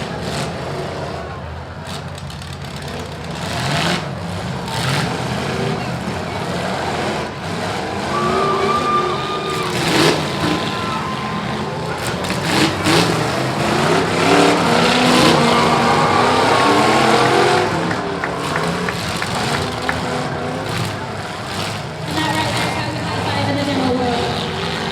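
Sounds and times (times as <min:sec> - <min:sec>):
car engines revving hard: 0:00.0 - 0:24.9.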